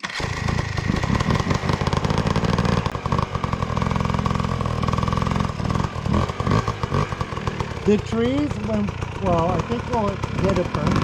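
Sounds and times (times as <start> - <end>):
dirt bike engine at low revs: 0.0 - 11.0.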